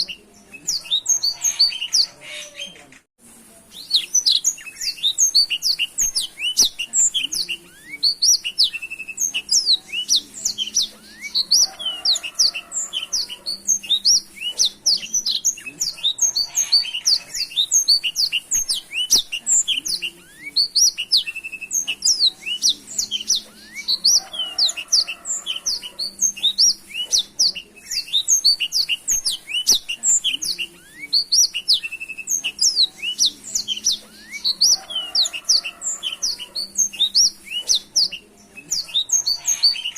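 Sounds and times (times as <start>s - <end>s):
canary singing: 0.0s - 3.1s, 3.7s - 39.9s.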